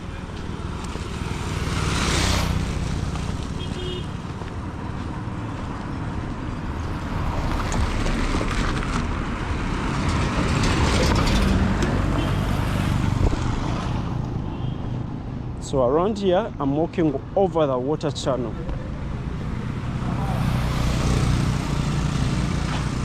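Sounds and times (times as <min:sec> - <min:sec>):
vehicles passing on busy road: 0:00.0 - 0:23.0.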